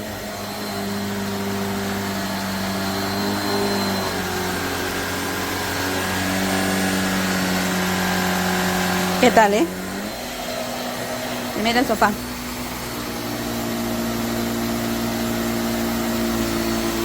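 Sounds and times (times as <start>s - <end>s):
vacuum cleaner motor hum: 0.0s - 17.0s.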